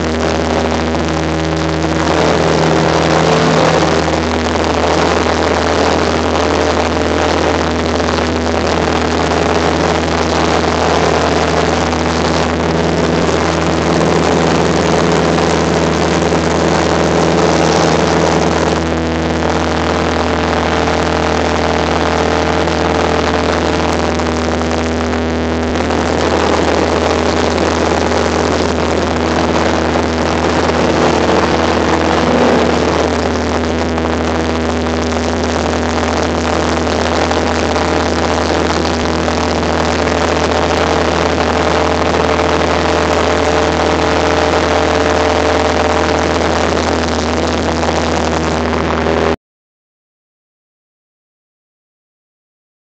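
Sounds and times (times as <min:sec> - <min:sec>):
aircraft engine and propeller droning: 0:00.0 - 0:49.4.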